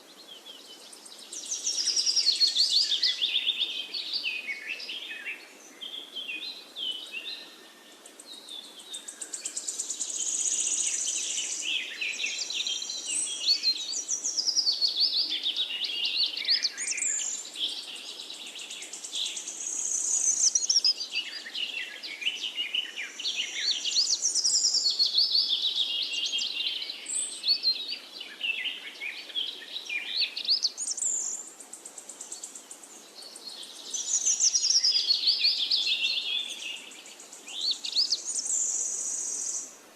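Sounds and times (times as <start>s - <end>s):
birds singing: 0.0s - 39.7s.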